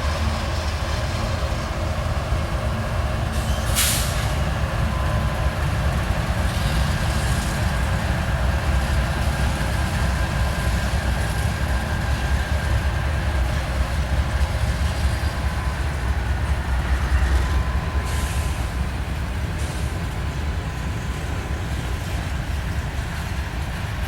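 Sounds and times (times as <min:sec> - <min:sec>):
faint high wheel squeal: 0:00.0 - 0:22.9
freight train rumbling: 0:00.0 - 0:24.0.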